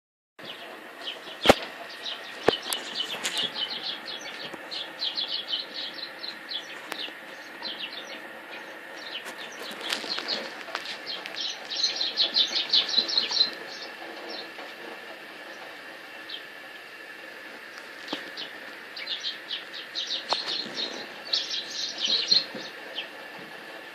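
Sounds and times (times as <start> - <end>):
birds chirping: 0.4 - 23.9.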